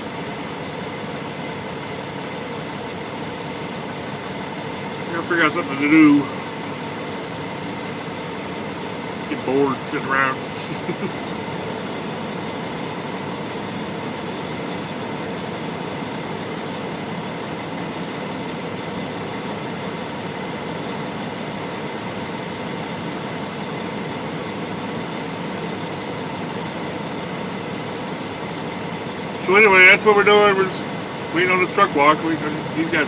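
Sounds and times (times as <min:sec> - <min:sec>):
air conditioning hum: 0:00.0 - 0:33.0
truck idling hum: 0:00.0 - 0:33.0.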